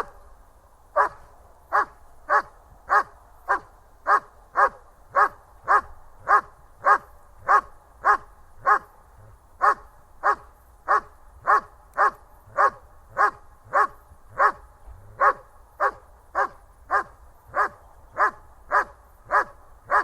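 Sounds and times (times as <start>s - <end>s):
dog barking: 1.0s - 8.9s, 9.6s - 20.0s.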